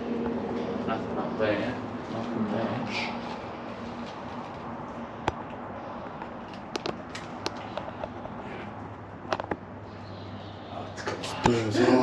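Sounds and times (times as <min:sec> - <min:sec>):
steady noisy background: 0:00.0 - 0:12.0.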